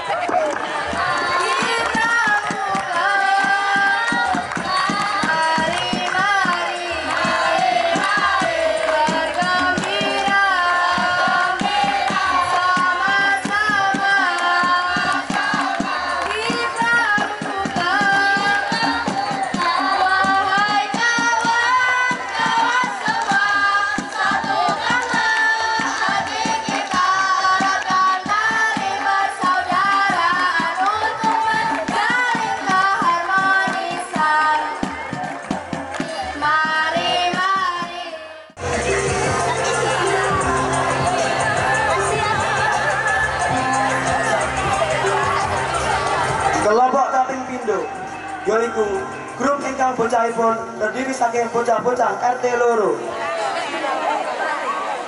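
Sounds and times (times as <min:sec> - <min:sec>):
song with quick drum beat: 0:00.0 - 0:52.0.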